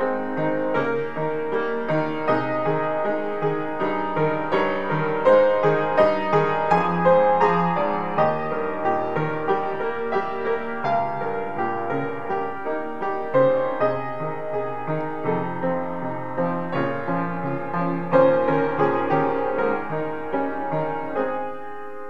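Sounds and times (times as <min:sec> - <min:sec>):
upright piano chords and melody: 0:00.0 - 0:22.0.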